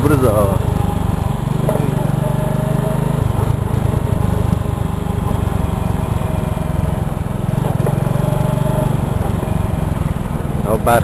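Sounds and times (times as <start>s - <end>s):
motorcycle engine riding slowly: 0.0s - 11.0s.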